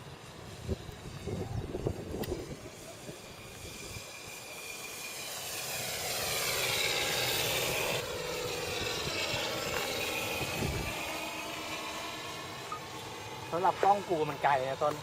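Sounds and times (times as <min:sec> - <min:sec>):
model plane engine flying past: 0:00.0 - 0:15.0.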